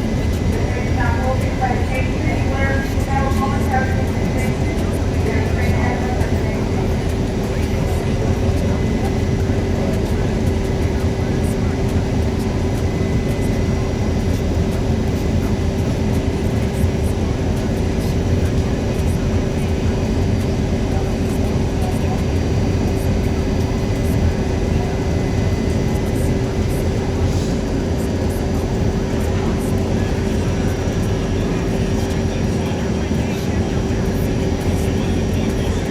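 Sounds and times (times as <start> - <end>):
constant hum: 0.0 - 35.9
subway car rumbling on track: 0.0 - 35.9.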